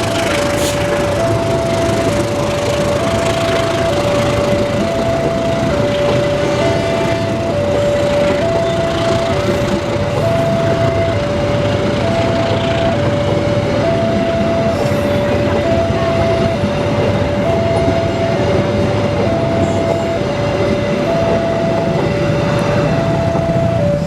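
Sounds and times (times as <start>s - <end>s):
train passing: 0.0s - 24.0s
two-note crossing warning siren: 0.0s - 24.0s.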